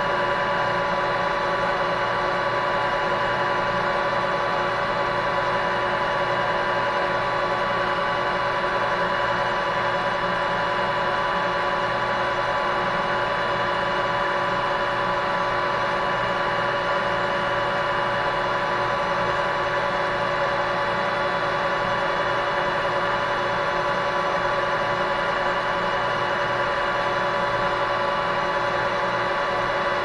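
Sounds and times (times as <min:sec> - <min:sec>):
metal lathe humming and whining: 0:00.0 - 0:30.0.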